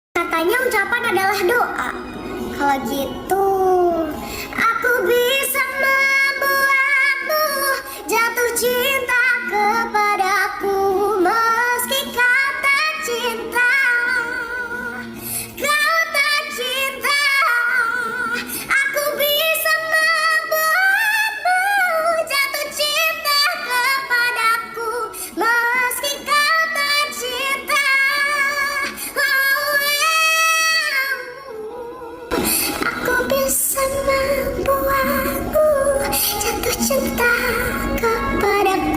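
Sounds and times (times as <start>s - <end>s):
pitched-up woman singing: 0.2s - 38.9s.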